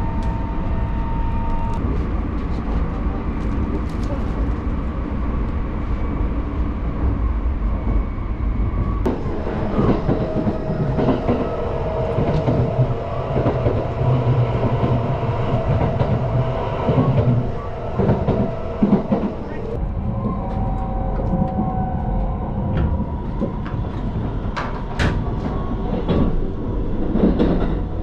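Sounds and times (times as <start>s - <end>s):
train running rumble: 0.0s - 28.0s.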